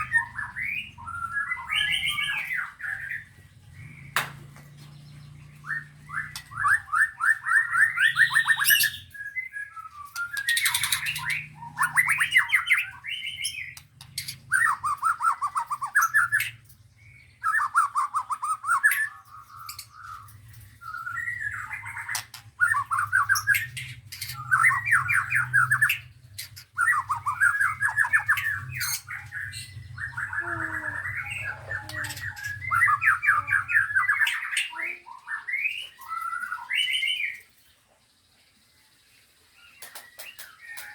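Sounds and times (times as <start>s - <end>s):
songbirds singing trills: 0.0s - 40.9s.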